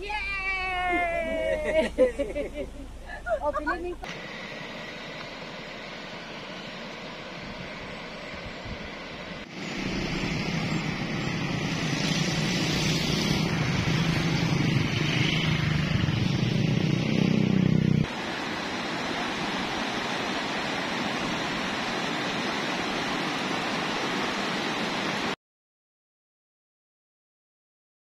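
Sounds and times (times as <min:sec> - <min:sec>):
steady rushing noise: 0:02.8 - 0:25.4.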